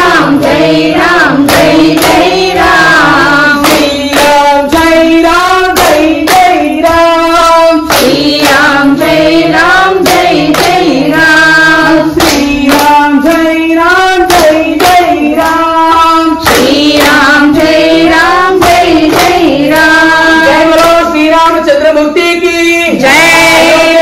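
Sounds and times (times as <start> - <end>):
hand claps: 0.0 - 21.6
voices singing in unison: 0.0 - 24.0.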